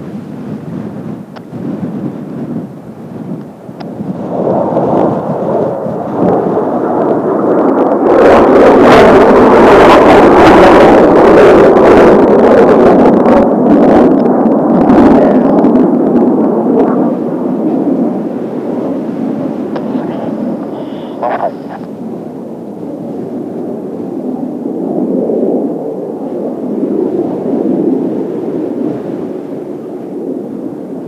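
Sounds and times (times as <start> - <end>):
jet aircraft roaring overhead: 0.0 - 31.0.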